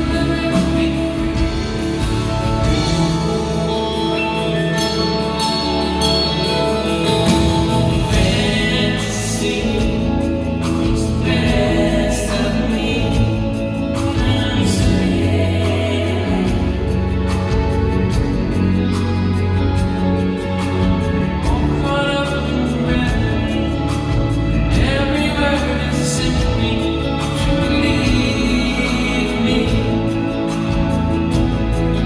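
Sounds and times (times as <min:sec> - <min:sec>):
drums: 0:00.0 - 0:32.0
electric guitar: 0:00.0 - 0:32.0
layered sung vocals: 0:00.0 - 0:32.0.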